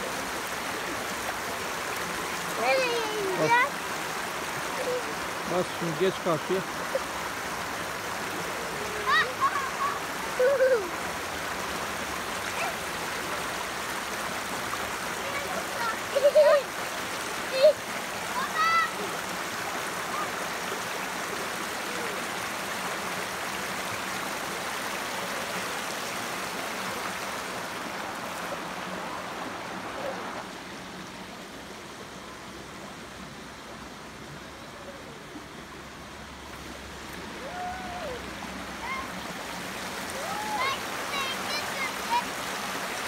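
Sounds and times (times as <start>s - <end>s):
creek running over rocks: 0.0s - 43.0s.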